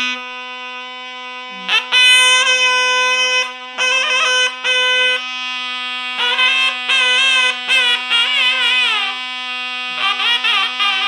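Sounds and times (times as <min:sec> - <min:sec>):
zurna drone note: 0:00.0 - 0:11.0.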